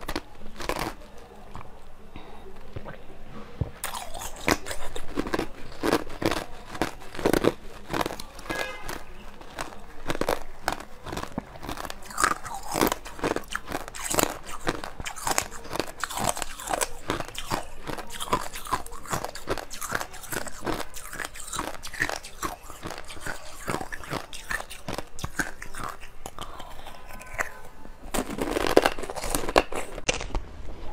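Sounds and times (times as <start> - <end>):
chewing crunchy ice: 0.0 - 1.9, 3.8 - 30.4.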